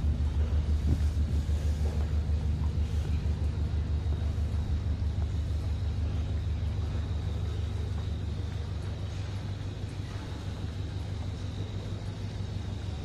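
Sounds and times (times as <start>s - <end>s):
diesel train engine idling: 0.0s - 13.0s
faint high whine: 0.0s - 13.0s.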